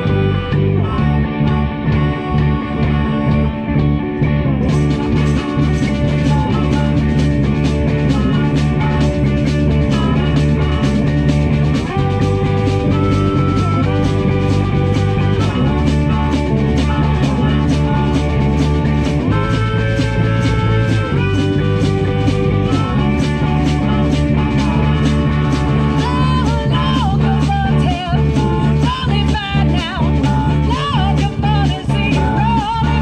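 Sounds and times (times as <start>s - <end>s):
bass: 0.0s - 33.0s
electric guitars bending notes: 0.0s - 33.0s
drum kit cymbal beat: 4.7s - 33.0s.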